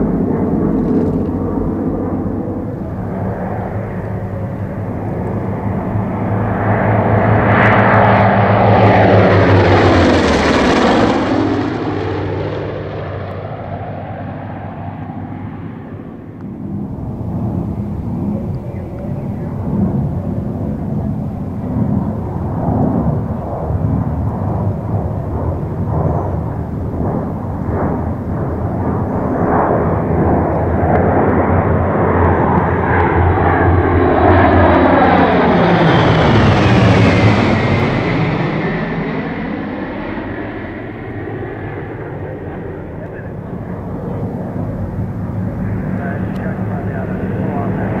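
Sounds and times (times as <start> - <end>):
propeller planes flying past: 0.0 - 48.0.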